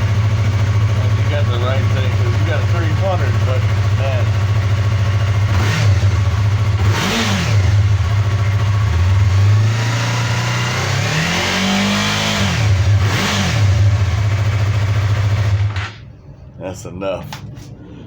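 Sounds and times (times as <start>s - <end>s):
motorcycle engine idling and revving: 0.0s - 16.4s.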